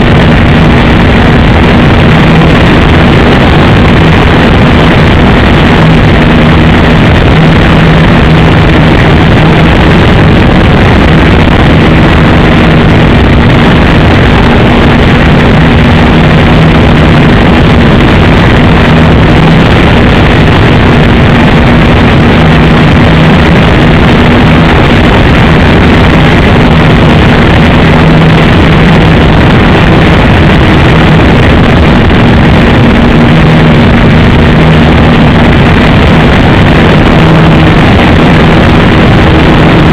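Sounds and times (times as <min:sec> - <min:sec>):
model plane engine droning: 0:00.0 - 0:39.9.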